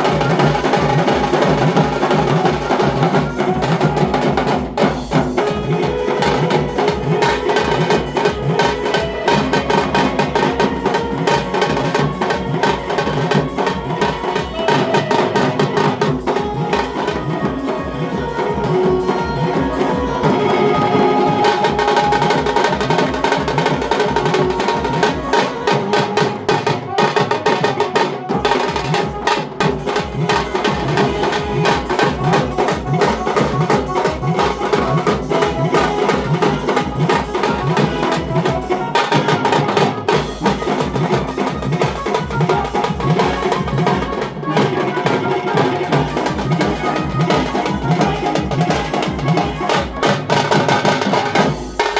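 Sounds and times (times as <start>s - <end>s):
drums beaten rapidly with sticks: 0.0s - 51.9s.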